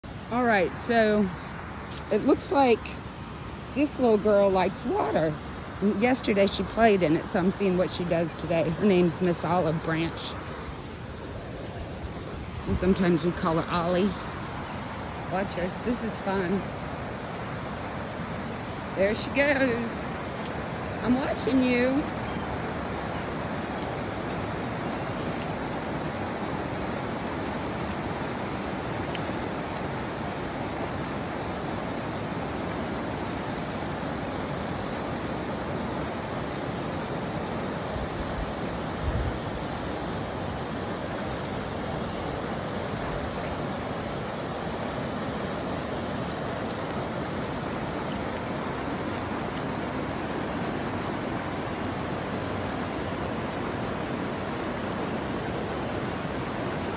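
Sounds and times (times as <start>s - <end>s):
river flowing: 0.0s - 56.9s.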